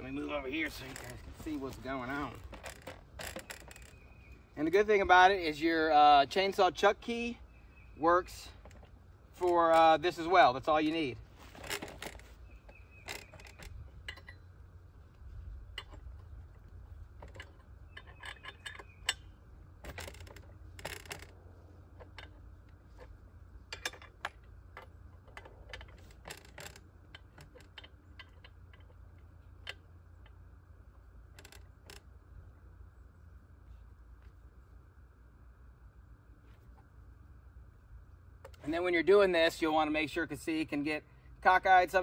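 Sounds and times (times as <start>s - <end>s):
steady low rumble: 0.0s - 26.2s, 26.8s - 41.9s.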